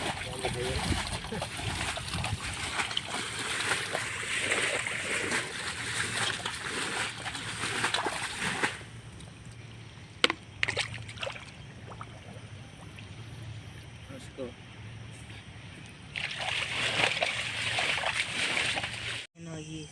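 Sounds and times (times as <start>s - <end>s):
water splashing and sloshing: 0.0s - 13.8s, 15.4s - 19.3s.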